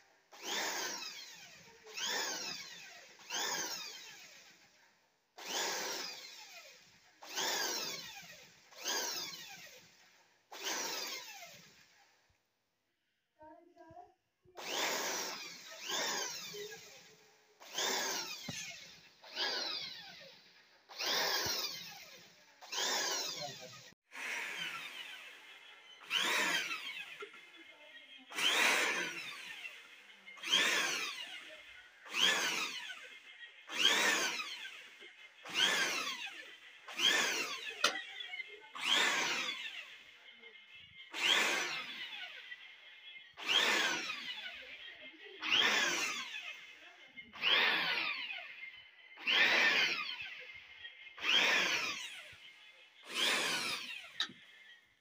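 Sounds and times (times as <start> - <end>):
electric drill whirring: 0.2 - 4.8, 5.4 - 12.2, 14.6 - 55.0.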